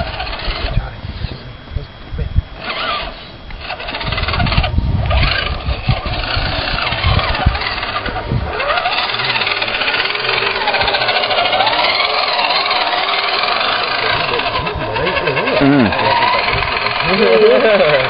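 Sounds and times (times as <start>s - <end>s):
toy truck motor whining: 0.0s - 1.5s, 2.5s - 18.0s.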